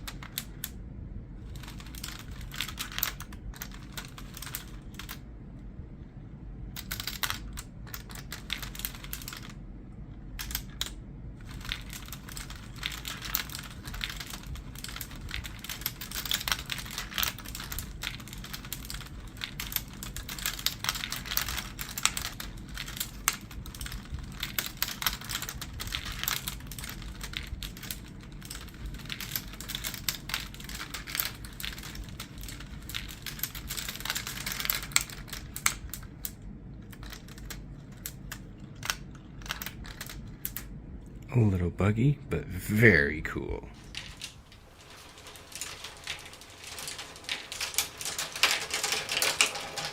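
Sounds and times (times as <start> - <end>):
glass marbles rattling on wooden tracks: 1.4 - 5.2, 6.8 - 9.5, 10.4 - 40.6, 43.8 - 49.9.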